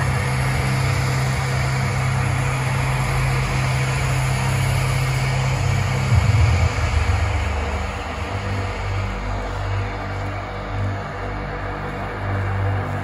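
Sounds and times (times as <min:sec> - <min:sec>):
low electronic drone over loudspeakers: 0:00.0 - 0:13.0.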